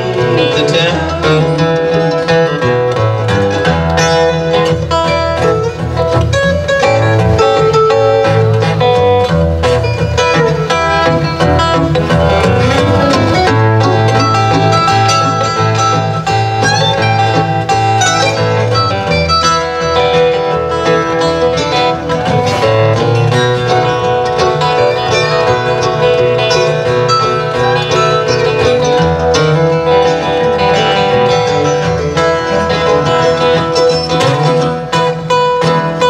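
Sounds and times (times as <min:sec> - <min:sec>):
acoustic guitars picking: 0:00.0 - 0:36.0
mandolin picking: 0:00.0 - 0:36.0.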